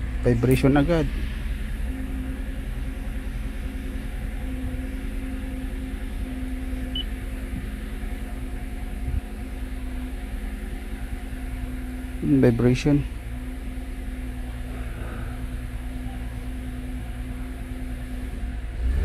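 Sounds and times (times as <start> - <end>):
rough car engine idling: 0.0 - 19.0.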